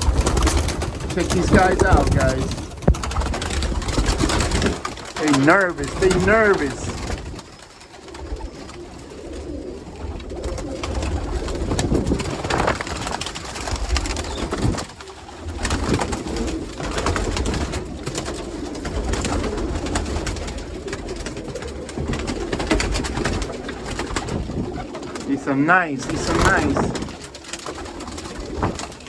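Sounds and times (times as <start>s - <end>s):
pigeon wing claps: 0.0s - 29.0s
pigeons cooing: 0.0s - 29.0s
pigeons scuffing: 0.0s - 29.0s.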